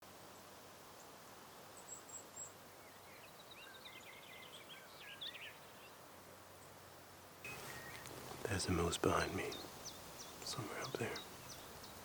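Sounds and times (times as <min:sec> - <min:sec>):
steady background hiss: 0:00.0 - 0:12.0
songbird chirping: 0:00.1 - 0:12.0.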